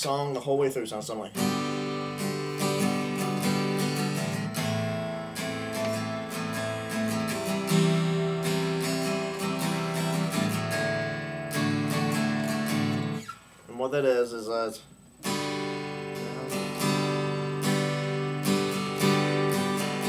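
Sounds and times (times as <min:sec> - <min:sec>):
guitar strumming chords: 0:01.4 - 0:13.9, 0:15.2 - 0:20.0.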